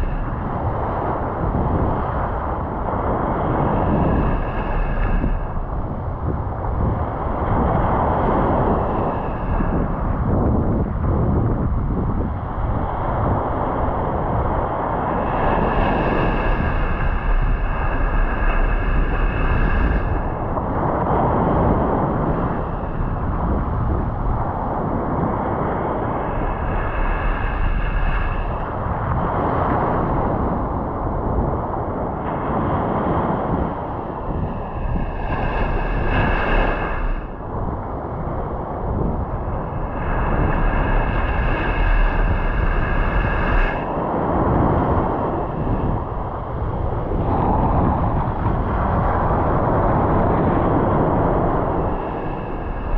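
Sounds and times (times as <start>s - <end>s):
high whine: 0.0s - 52.9s
surf breaking on a beach: 0.0s - 52.9s
wind buffeting microphone: 0.0s - 52.9s.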